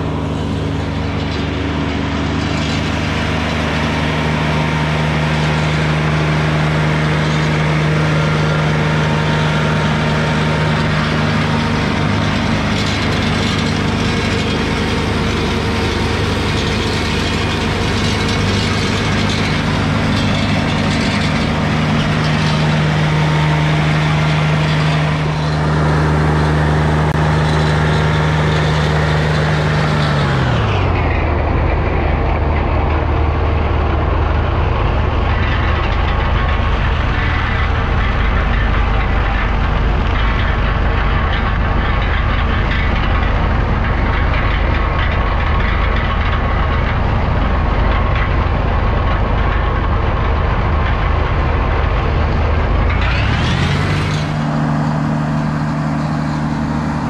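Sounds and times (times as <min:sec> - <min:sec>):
mower engine running: 0:00.0 - 0:57.0.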